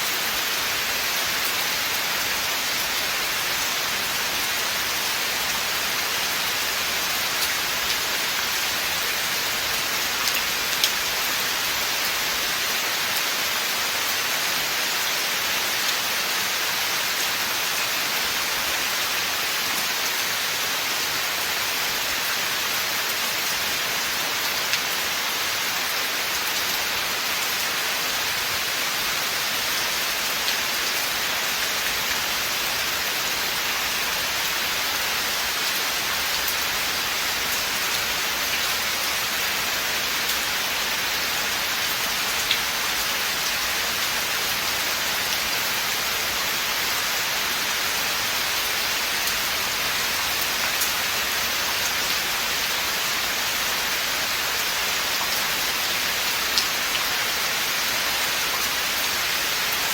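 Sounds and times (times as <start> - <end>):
rain falling through forest: 0.0 - 59.9.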